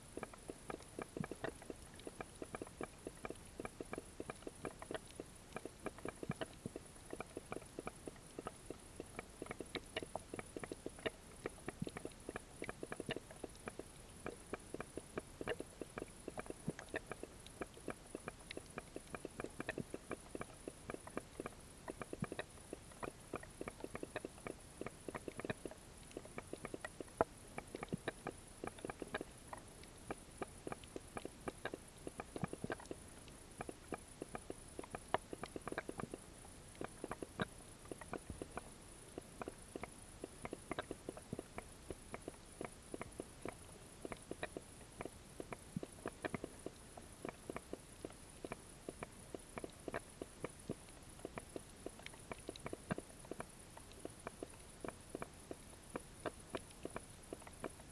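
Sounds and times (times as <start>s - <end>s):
underwater crackle of clicks: 0.1s - 57.9s.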